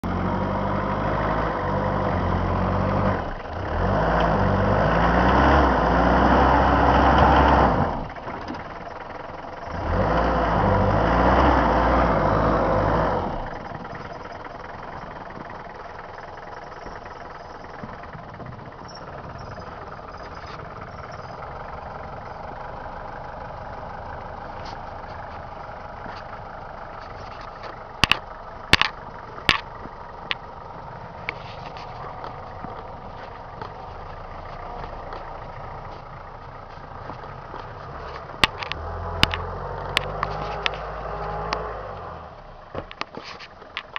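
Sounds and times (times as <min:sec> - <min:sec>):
pickup engine revving: 0:00.0 - 0:08.6, 0:09.6 - 0:42.7.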